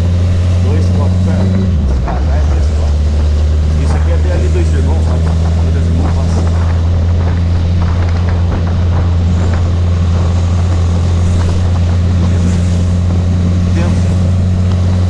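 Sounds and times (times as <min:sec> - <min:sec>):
motorcycle engine droning: 0:00.0 - 0:15.0
road and wind noise: 0:00.0 - 0:15.0.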